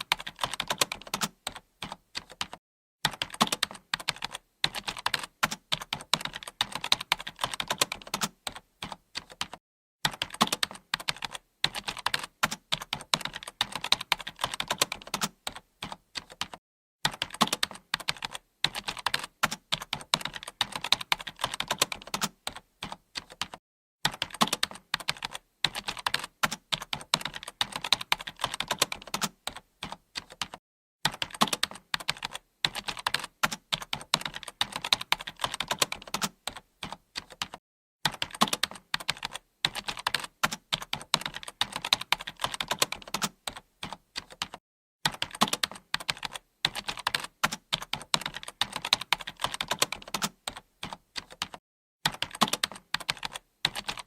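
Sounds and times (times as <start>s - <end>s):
typing on computer keyboard: 0.0s - 54.0s.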